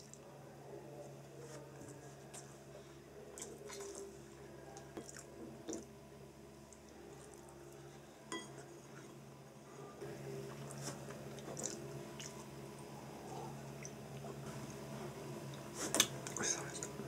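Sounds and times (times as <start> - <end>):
low steady hum: 0.0 - 17.0
soft chewing: 0.0 - 17.0.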